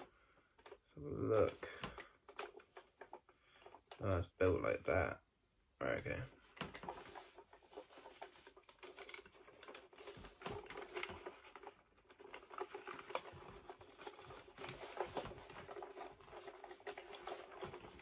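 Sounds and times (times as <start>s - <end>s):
faint clicks of plastic parts: 0.0s - 4.5s, 5.8s - 18.0s.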